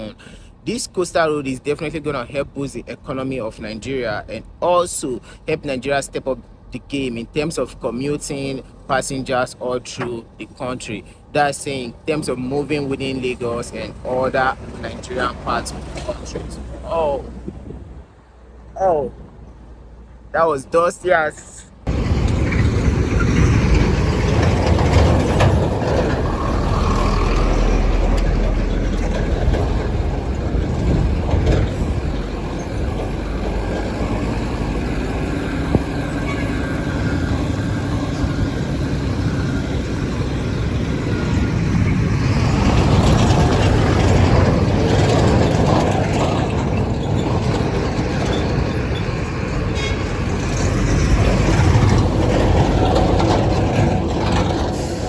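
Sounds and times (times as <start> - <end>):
heavy trucks rumbling past: 0.0 - 20.3, 21.7 - 55.0.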